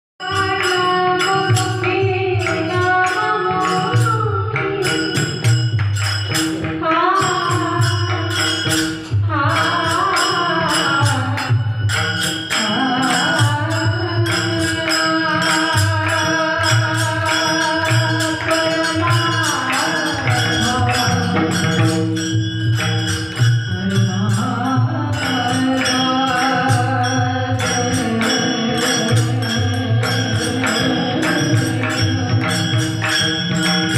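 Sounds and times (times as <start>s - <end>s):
jingling percussion: 0.2s - 33.9s
person singing devotional song: 0.2s - 33.9s.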